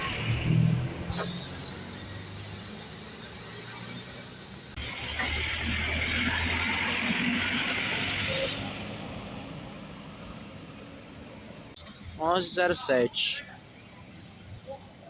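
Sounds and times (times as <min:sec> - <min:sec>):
bus driving past: 0:00.0 - 0:12.2.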